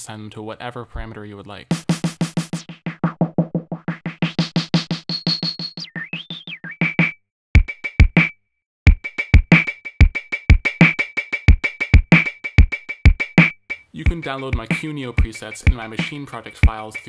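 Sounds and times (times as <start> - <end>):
beat with deep kick drum: 1.7 - 5.9, 6.9 - 8.3, 8.9 - 17.0
electronic drum roll: 1.7 - 8.3, 8.9 - 17.0.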